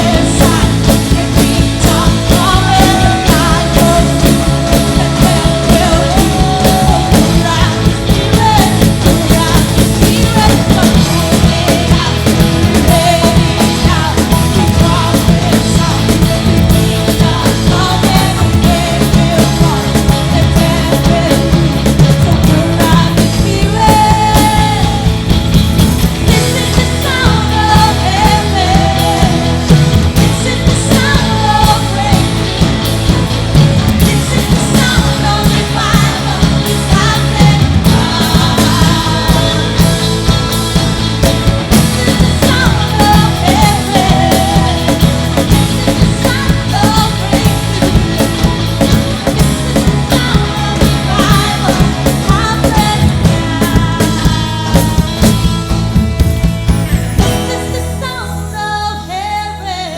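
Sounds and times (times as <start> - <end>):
person singing: 0.0 - 59.9
rock band music: 0.0 - 59.9.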